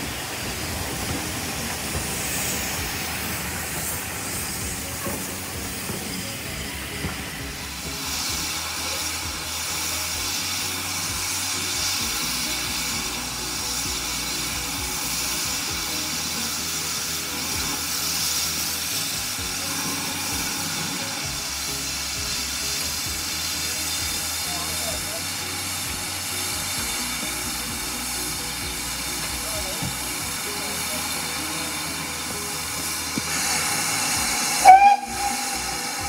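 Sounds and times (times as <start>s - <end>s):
steam hissing: 0.0s - 36.0s.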